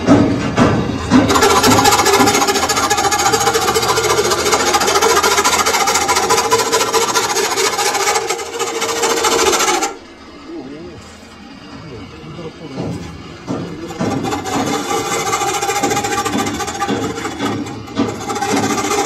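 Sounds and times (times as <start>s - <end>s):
lathe tool squealing on metal: 1.0s - 19.0s
fast rattling chatter: 1.2s - 19.0s.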